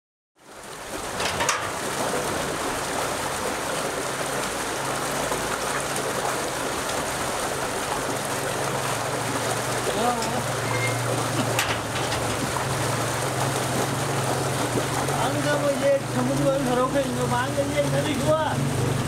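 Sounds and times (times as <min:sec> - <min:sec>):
stream water rushing: 0:00.4 - 0:19.0.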